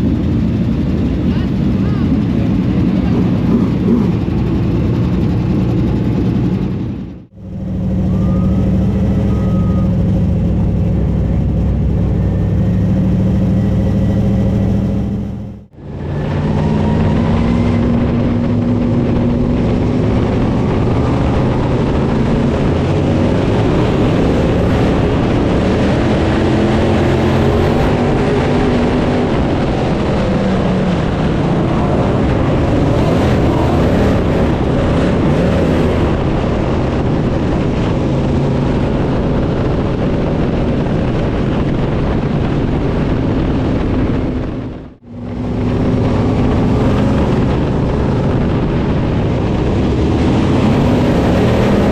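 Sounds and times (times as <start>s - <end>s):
race car engine running hard: 0.0s - 51.9s.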